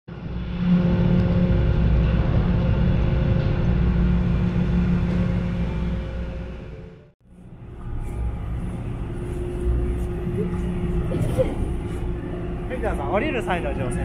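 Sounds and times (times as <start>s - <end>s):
steady tones: 0.1s - 14.0s
diesel engine running: 0.3s - 14.0s.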